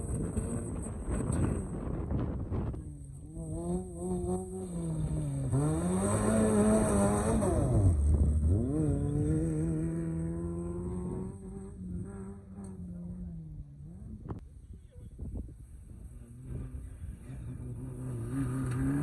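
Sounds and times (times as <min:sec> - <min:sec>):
car engine revving: 0:00.0 - 0:14.4, 0:16.0 - 0:19.0.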